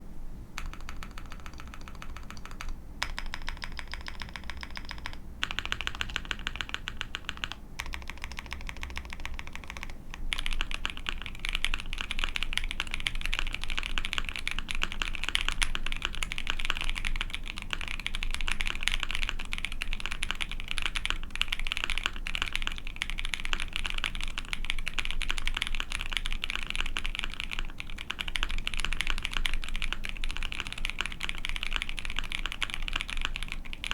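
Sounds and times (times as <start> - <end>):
typing on mechanical keyboard: 0.6 - 33.9.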